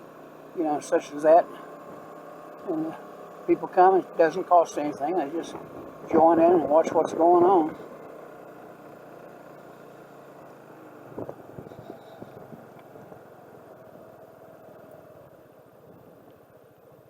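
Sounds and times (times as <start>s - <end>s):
car engine and tyres droning: 0.0s - 17.0s.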